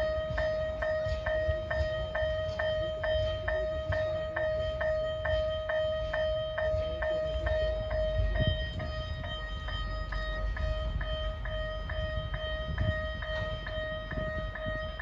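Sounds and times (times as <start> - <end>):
low train rumble: 0.0 - 15.0.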